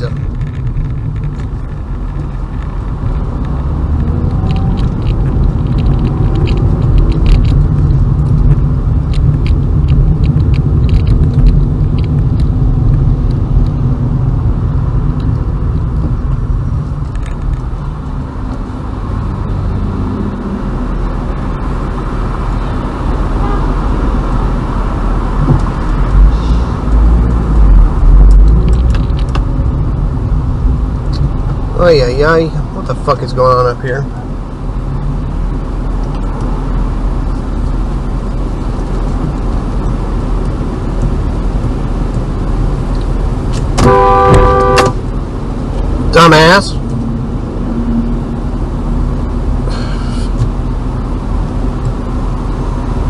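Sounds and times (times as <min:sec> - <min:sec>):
road rumble and tyre noise: 0:00.0 - 0:53.0.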